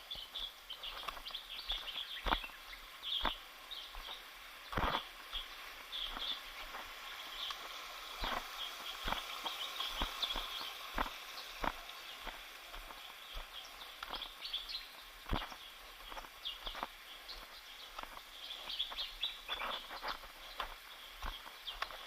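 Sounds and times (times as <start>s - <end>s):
birds chirping: 0.0s - 22.0s
footsteps on a trail: 0.0s - 22.0s.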